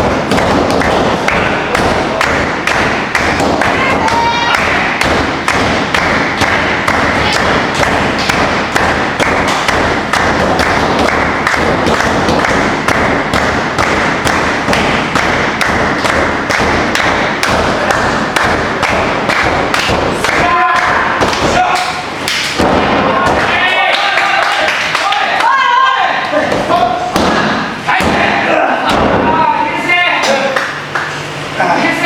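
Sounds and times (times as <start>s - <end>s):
rapid evenly spaced thuds: 0.0s - 29.5s.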